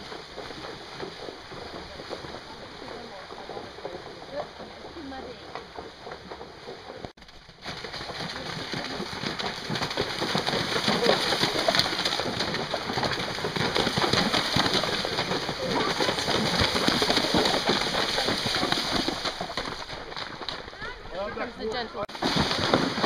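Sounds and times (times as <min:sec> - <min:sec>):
horses splashing through water: 0:00.0 - 0:23.0.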